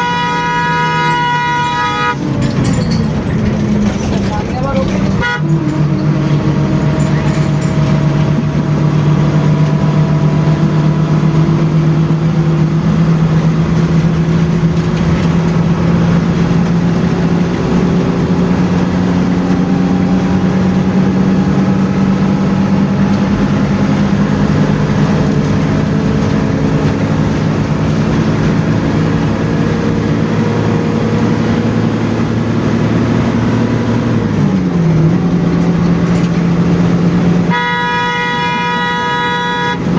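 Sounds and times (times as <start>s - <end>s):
bus engine under load: 0.0s - 39.9s
road and tyre noise: 0.0s - 39.9s.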